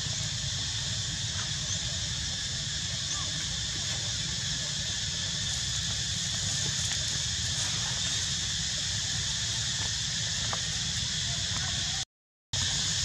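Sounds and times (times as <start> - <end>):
insect chorus drone: 0.0 - 12.0, 12.6 - 13.0.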